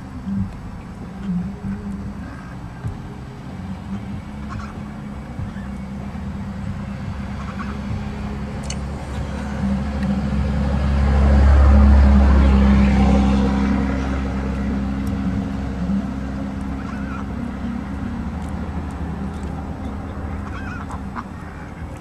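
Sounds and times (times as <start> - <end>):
steady low drone: 0.0 - 22.0
vehicle passing: 0.0 - 22.0.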